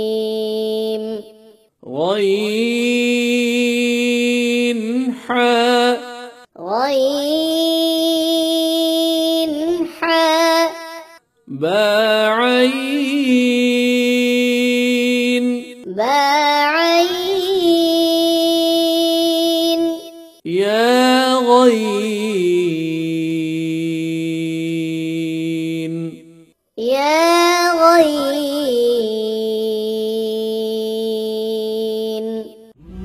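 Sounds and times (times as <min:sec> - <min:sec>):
person reciting melodically: 0:00.0 - 0:32.7.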